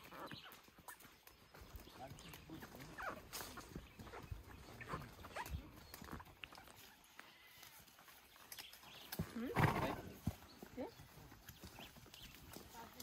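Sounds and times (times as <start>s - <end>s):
hooves clopping on dirt: 0.0s - 13.0s.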